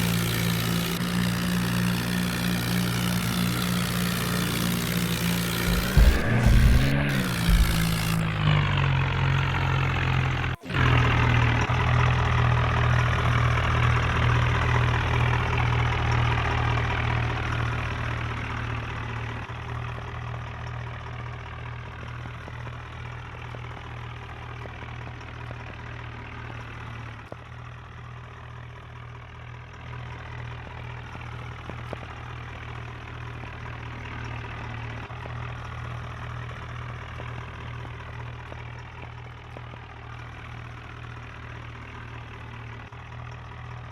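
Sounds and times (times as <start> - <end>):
tractor diesel engine humming: 0.0 - 43.9.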